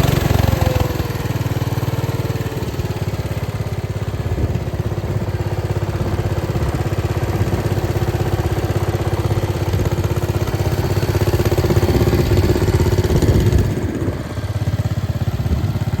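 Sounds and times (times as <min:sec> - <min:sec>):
lawn tractor engine running: 0:00.0 - 0:16.0.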